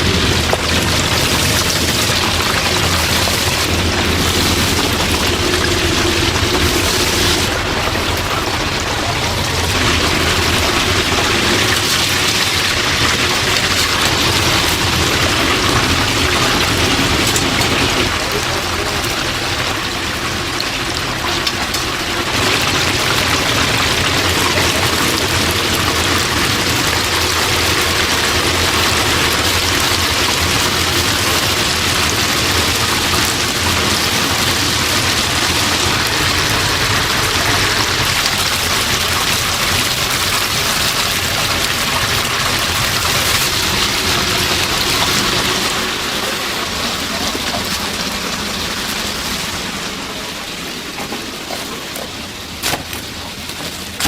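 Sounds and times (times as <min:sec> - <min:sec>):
chicken deep-frying in oil: 0:00.0 - 0:54.0.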